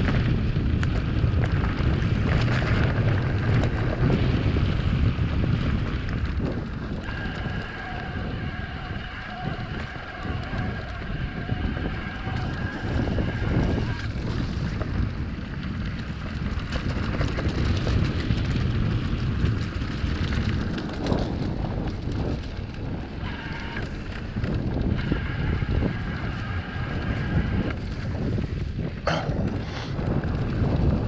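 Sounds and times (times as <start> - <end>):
bike rattling: 0.0 - 31.0
tyres rumbling on dirt: 0.0 - 31.0
wind buffeting microphone: 0.0 - 31.0.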